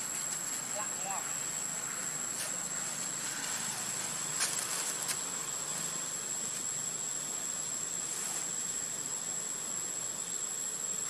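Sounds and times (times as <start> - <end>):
forest ambience hiss: 0.0 - 11.0
insect drone: 0.0 - 11.0.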